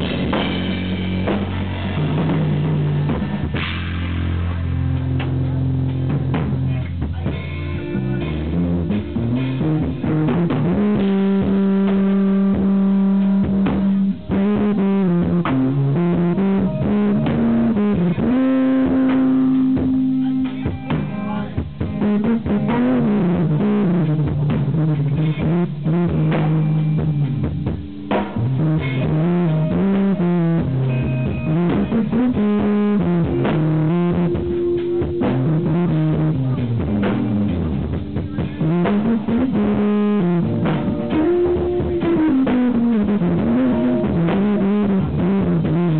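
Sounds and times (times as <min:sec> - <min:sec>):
drum kit: 0:00.0 - 0:45.9
electric bass: 0:00.0 - 0:45.9
electric guitar lead: 0:00.0 - 0:45.9.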